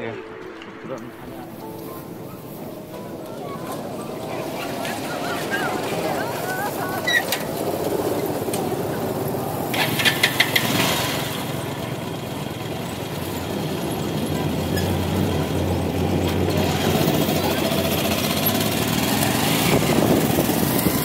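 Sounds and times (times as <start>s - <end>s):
motorcycle engine running: 2.6s - 21.0s.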